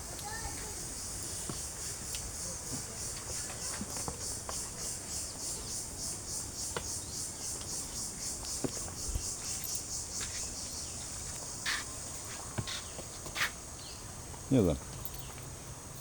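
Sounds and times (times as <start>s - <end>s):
insects chirping in pulsing trill: 0.0s - 16.0s.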